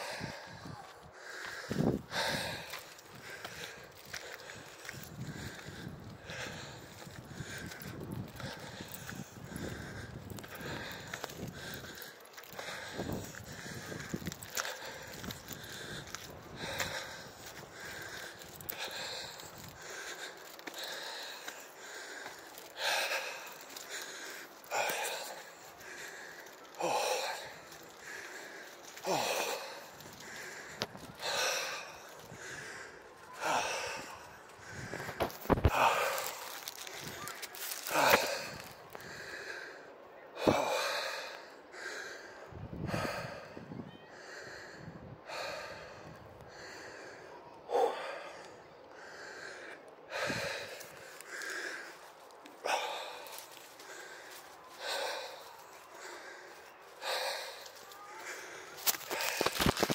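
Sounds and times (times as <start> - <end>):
person breathing hard: 0.0 - 59.9.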